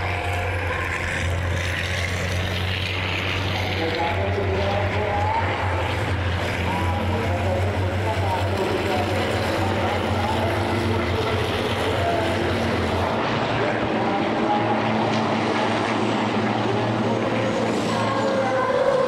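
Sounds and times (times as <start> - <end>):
truck engines droning past: 0.0 - 19.0.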